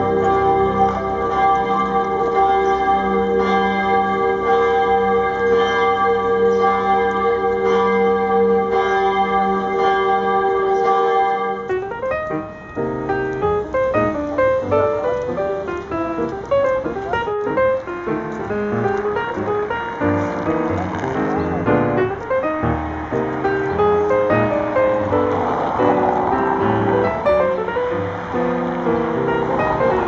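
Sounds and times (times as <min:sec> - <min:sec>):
church bells ringing: 0:00.0 - 0:30.0
piano music: 0:00.0 - 0:30.0.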